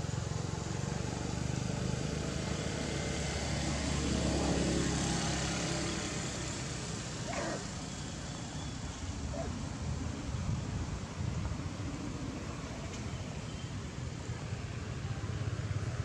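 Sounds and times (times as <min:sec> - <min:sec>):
outdoor noise: 0:00.0 - 0:16.0
vehicle engine hum: 0:00.0 - 0:16.0.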